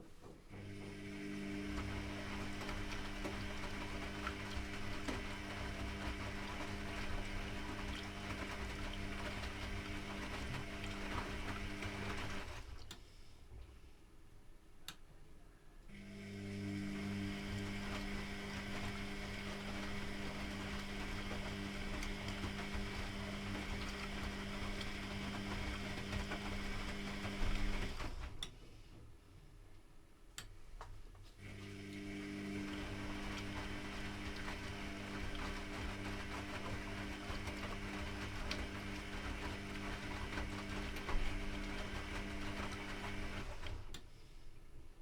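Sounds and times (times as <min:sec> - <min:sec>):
washing machine drum motor: 0:00.6 - 0:12.7, 0:16.1 - 0:28.4, 0:31.4 - 0:44.0.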